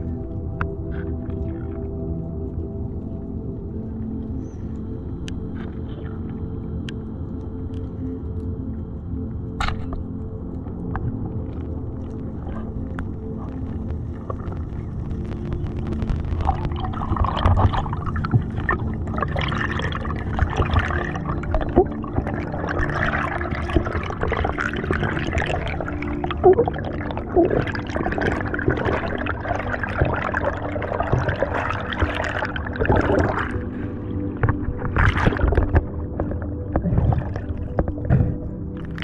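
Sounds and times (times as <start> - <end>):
underwater gurgling and bubbling: 0.0 - 39.0.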